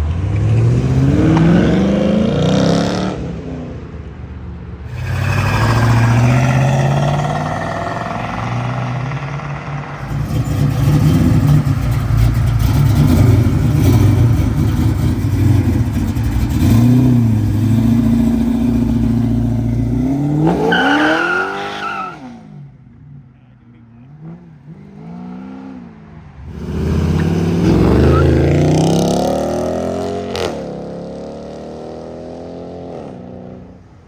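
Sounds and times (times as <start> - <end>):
car engine rumbling and revving: 0.0 - 4.2, 4.8 - 34.0.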